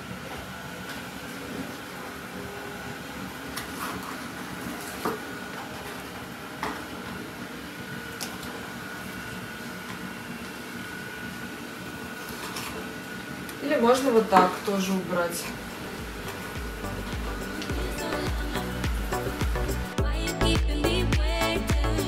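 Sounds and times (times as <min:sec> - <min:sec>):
kitchen background hum: 0:00.0 - 0:20.0.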